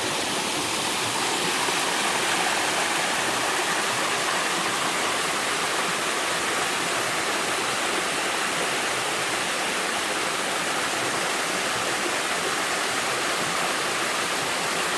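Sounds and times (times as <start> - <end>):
waterfall pouring into pool: 0.0 - 14.9.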